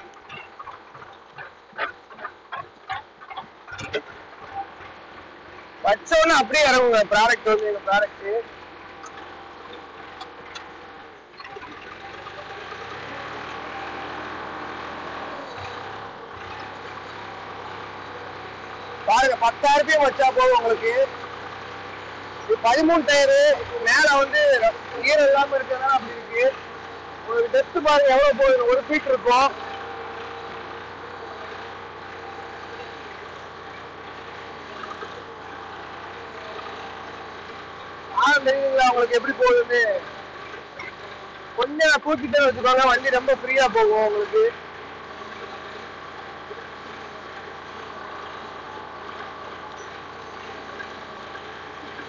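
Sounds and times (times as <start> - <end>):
tractor engine under load: 0.0 - 52.0.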